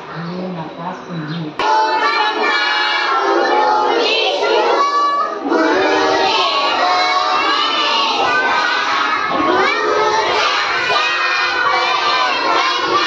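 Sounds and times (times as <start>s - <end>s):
children chanting in unison: 1.6s - 13.0s.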